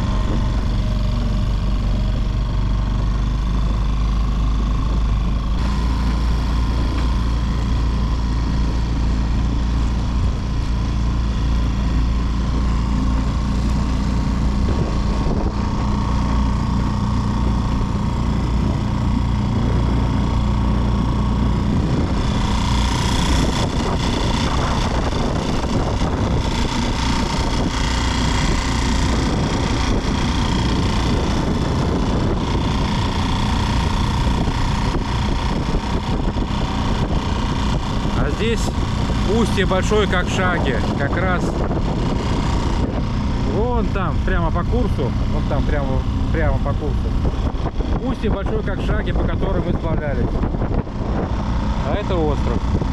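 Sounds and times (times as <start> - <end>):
outboard motor running: 0.0 - 52.9
water and wind hiss: 0.0 - 52.9.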